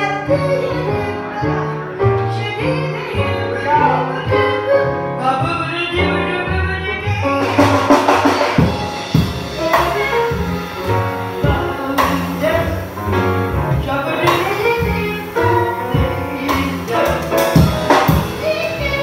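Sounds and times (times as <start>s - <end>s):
woman singing: 0.0s - 8.8s, 9.4s - 19.0s
drums: 0.0s - 19.0s
piano: 0.0s - 19.0s
upright bass: 0.0s - 19.0s.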